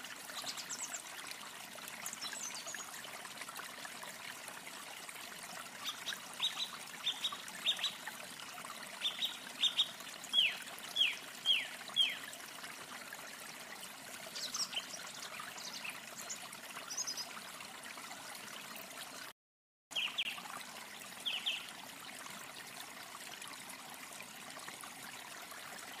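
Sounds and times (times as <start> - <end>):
trickling water: 0.0 - 26.0.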